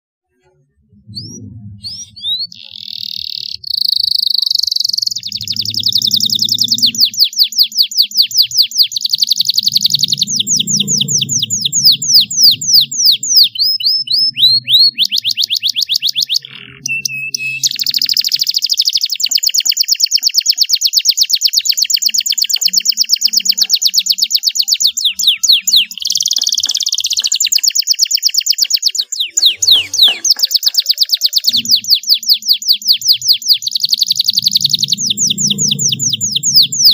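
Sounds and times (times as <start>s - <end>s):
canary singing trills: 0.9s - 36.9s.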